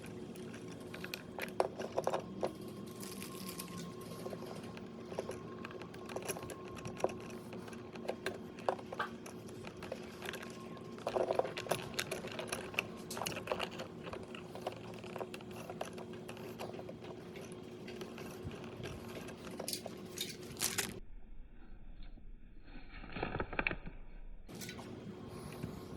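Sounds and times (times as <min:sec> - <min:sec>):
clicks and rattles of wiring work: 0:00.0 - 0:21.0, 0:24.5 - 0:25.9
steady low hum: 0:00.0 - 0:23.1, 0:24.0 - 0:25.9.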